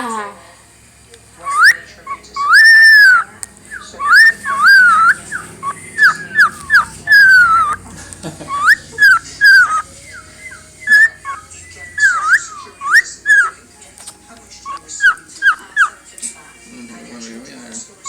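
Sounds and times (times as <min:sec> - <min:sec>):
cockatiel whistling: 0:01.4 - 0:18.0.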